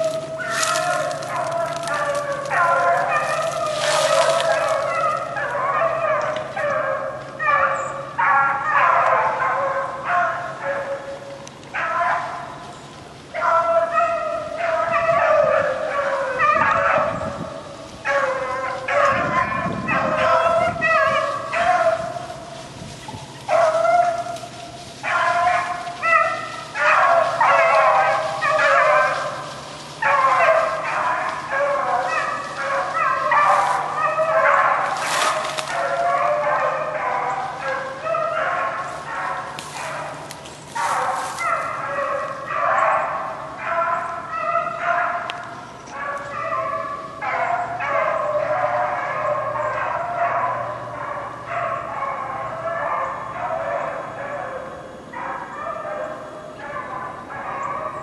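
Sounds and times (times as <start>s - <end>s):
hounds baying: 0.0s - 58.0s.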